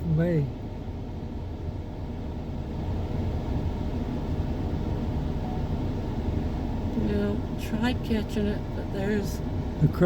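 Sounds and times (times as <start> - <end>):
car low rumble: 0.0 - 10.0.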